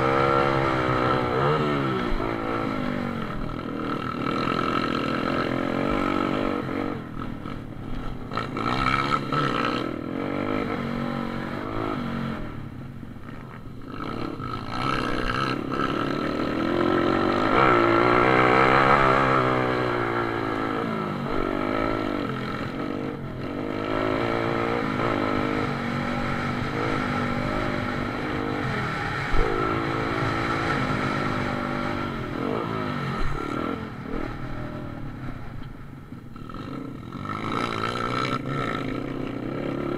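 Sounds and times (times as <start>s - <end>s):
pit bike engines racing: 0.0s - 39.9s.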